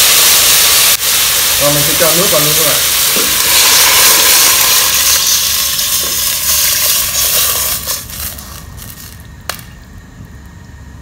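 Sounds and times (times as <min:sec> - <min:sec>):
water poured into sizzling pot: 0:00.0 - 0:08.9.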